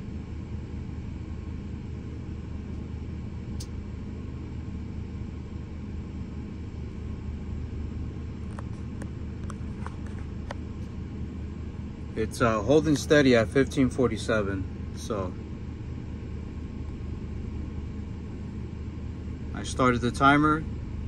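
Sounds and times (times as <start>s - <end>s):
cooling fan running: 0.0s - 21.0s
generator droning: 0.0s - 21.0s.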